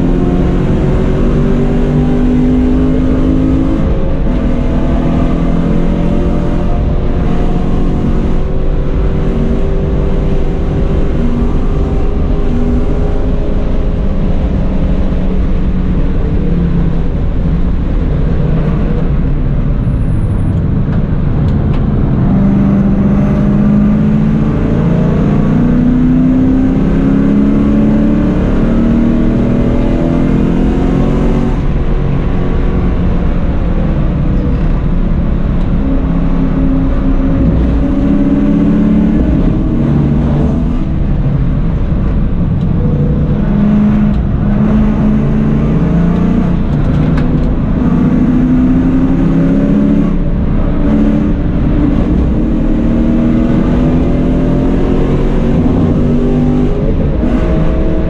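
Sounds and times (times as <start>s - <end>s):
car engine from inside cabin: 0.0s - 58.0s
road and wind noise: 0.0s - 58.0s.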